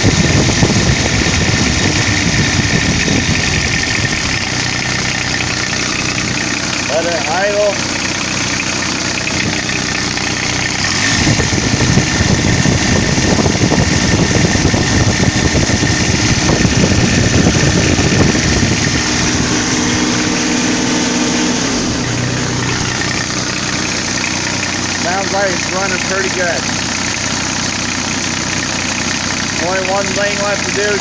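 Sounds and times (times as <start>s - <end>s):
mower diesel engine idling: 0.0s - 31.0s.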